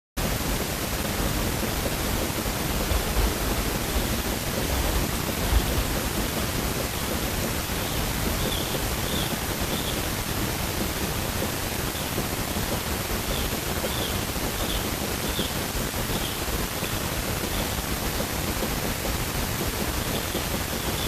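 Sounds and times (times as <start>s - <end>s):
steady rushing noise: 0.2s - 21.0s.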